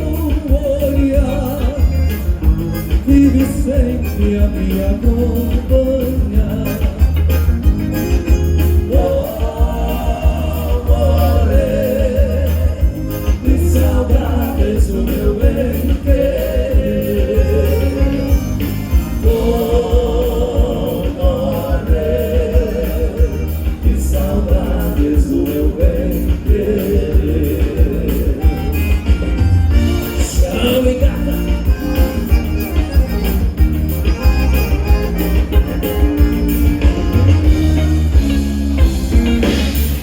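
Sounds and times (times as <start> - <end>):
accordion melody: 0.0 - 40.0
bass and drum beat: 0.0 - 40.0.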